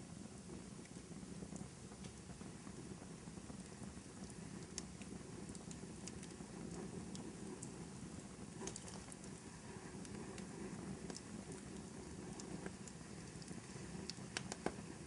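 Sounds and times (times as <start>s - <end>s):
fire burning rumble: 0.0s - 15.0s
fire pops and snaps: 0.0s - 15.0s.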